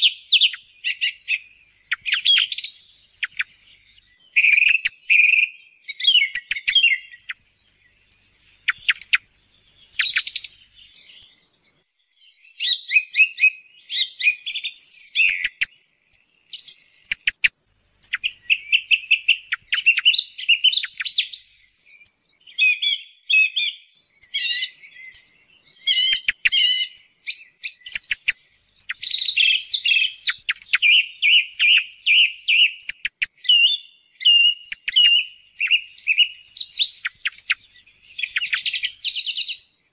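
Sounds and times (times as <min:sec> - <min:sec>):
song thrush singing: 0:00.0 - 0:39.9.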